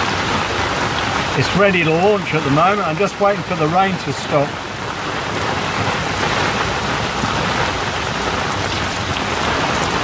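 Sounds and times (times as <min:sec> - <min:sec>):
rain on a boat deck: 0:00.0 - 0:10.0.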